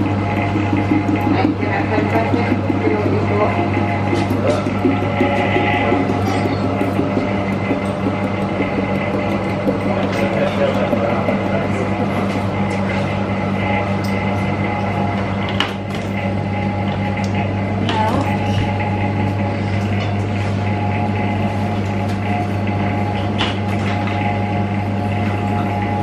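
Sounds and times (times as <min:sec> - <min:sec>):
vending machine humming: 0:00.0 - 0:26.0.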